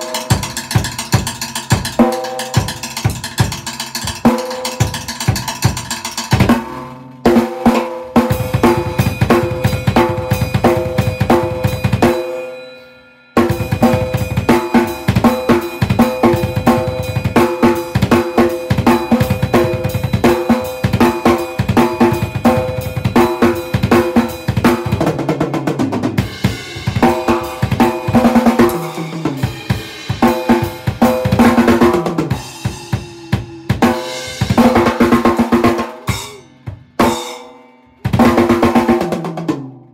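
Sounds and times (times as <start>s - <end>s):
acoustic drum kit playing fast: 0.0s - 12.6s, 13.4s - 39.9s.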